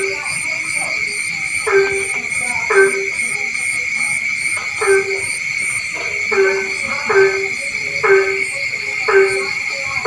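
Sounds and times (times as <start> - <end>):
faint pulsing high chirp: 0.0 - 10.0
frog croaking: 0.0 - 10.0
high-pitched night chorus: 0.0 - 10.0.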